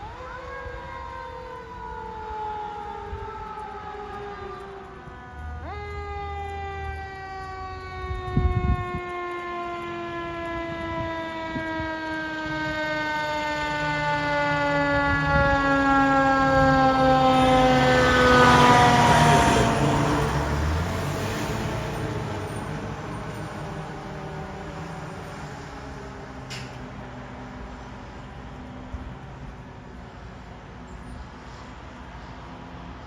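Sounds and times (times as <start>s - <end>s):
truck engine and road noise: 0.0s - 33.0s.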